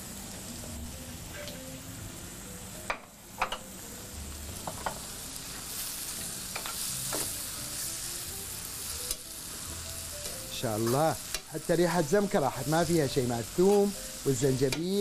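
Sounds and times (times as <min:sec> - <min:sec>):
meat and onions sizzling in oil: 0:00.0 - 0:15.0.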